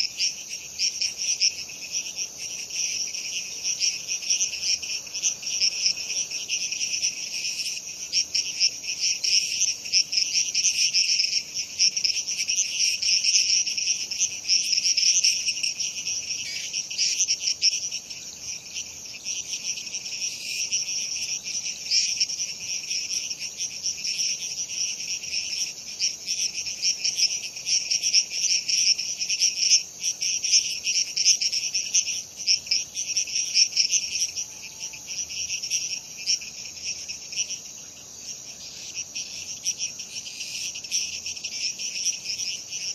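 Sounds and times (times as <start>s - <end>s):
frogs and insects calling: 0.0s - 42.9s.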